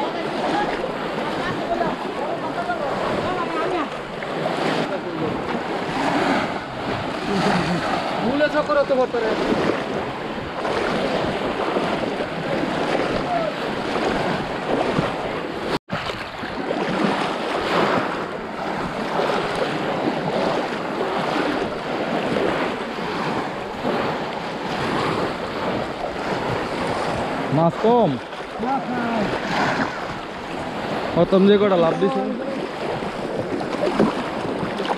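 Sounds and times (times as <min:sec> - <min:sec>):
people wading and splashing water: 0:00.0 - 0:34.9.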